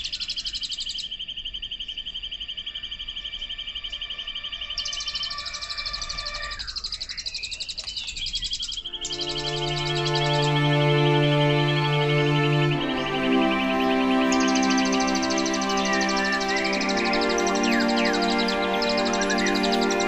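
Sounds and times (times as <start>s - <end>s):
faint sustained music tones: 2.3s - 7.5s, 8.8s - 20.0s.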